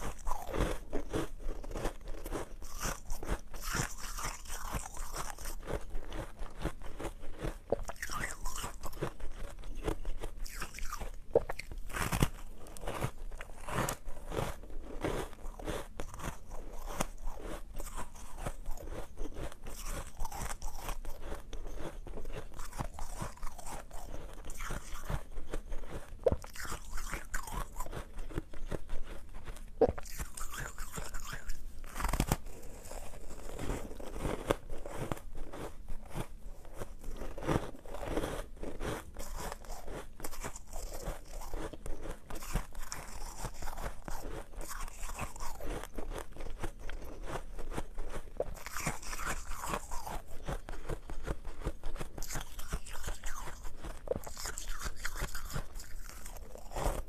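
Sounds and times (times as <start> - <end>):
ice being crunched and chewed: 0.0 - 57.0.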